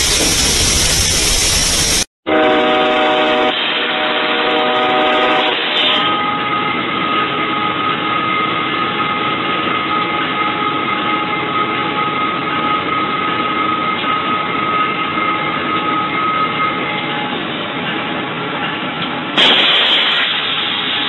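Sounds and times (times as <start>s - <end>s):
locomotive rumbling: 0.0s - 2.0s, 6.0s - 21.0s.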